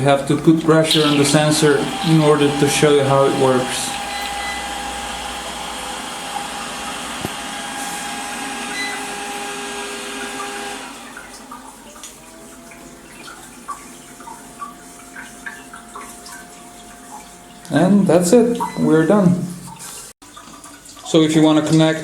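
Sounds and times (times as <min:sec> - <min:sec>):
bidet pump and water spray: 0:00.0 - 0:22.0.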